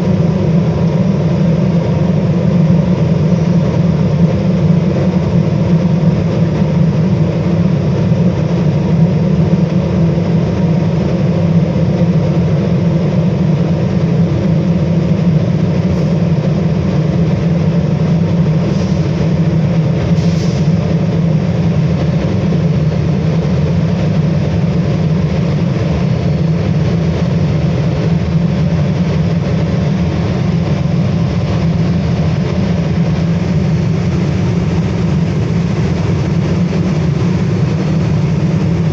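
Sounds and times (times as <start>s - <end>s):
furnace burner and blower roaring: 0.0s - 38.9s.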